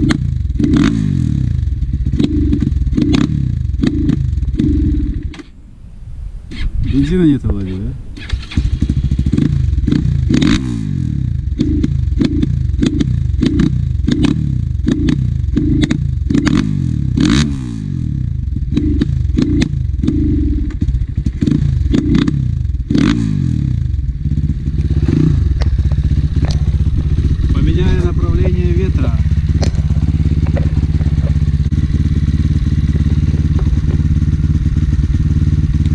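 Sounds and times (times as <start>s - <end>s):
motorcycle engine revving: 0.0s - 5.5s, 8.1s - 35.9s.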